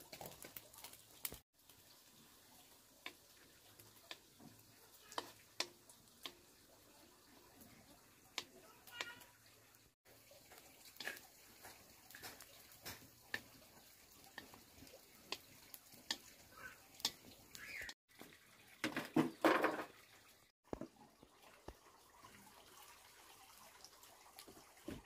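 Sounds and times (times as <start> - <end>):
water dripping and splashing: 0.0 - 25.0.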